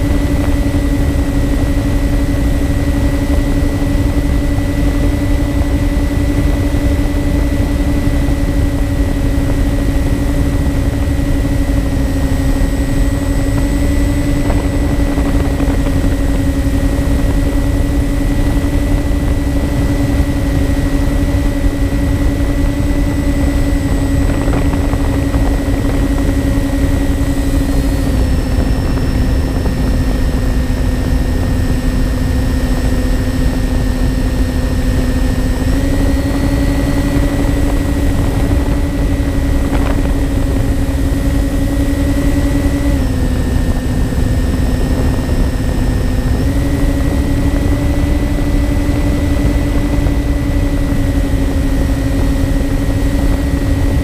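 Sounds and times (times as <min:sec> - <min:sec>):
low wind rush: 0:00.0 - 0:54.0
model plane motors humming: 0:00.0 - 0:54.0.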